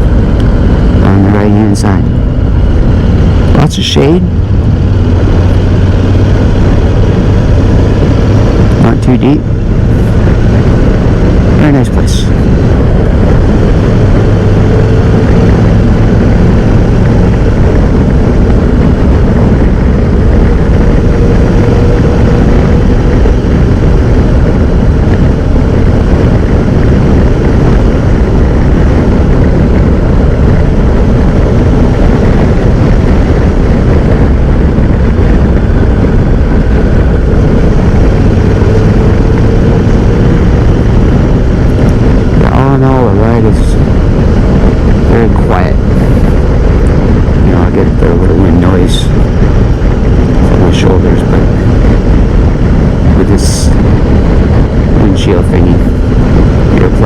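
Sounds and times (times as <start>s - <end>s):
motorcycle engine hum: 0.0s - 57.0s
wind noise: 0.0s - 57.0s.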